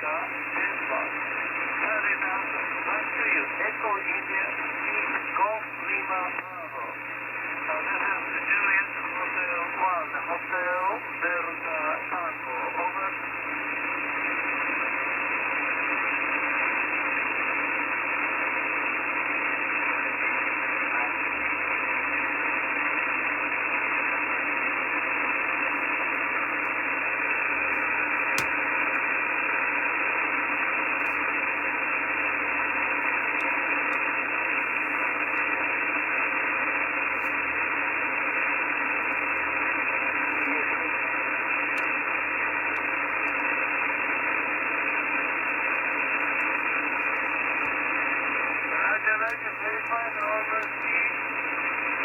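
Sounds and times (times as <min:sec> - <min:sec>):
radio receiver static hiss: 0:00.0 - 0:52.0.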